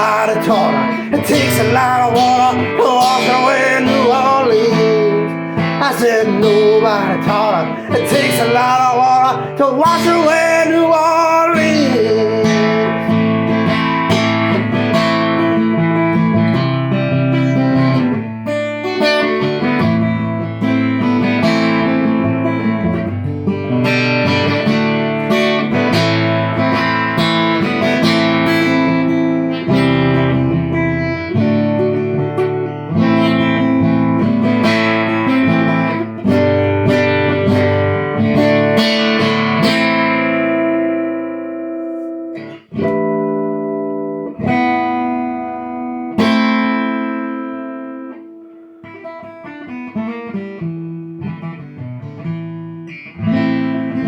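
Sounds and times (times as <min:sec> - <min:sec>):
guitar playing picked notes: 0:00.0 - 0:54.0.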